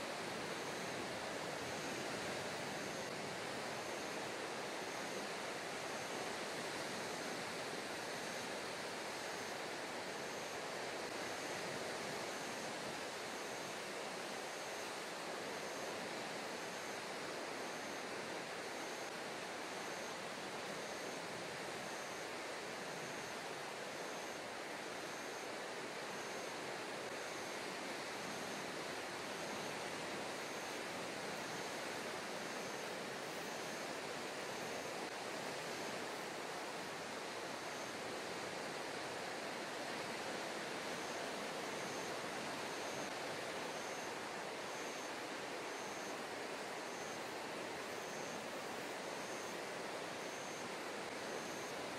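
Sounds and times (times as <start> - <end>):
wind: 0.0 - 51.9.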